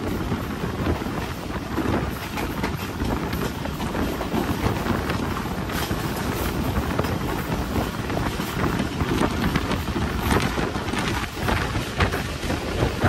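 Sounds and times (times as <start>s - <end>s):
train clatter: 0.0s - 13.0s
train wheels rumbling on rails: 0.0s - 13.0s
wind rushing over microphone: 0.0s - 13.0s.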